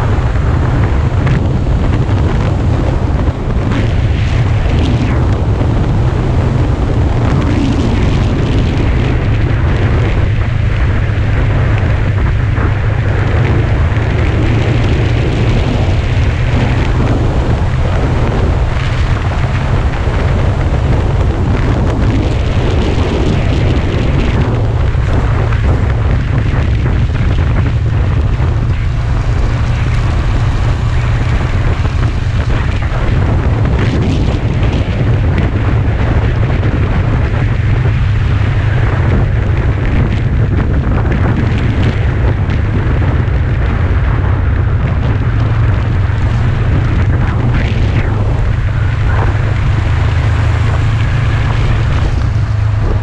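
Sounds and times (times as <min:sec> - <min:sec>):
motorcycle running: 0:00.0 - 0:53.0
wind buffeting microphone: 0:00.0 - 0:53.0.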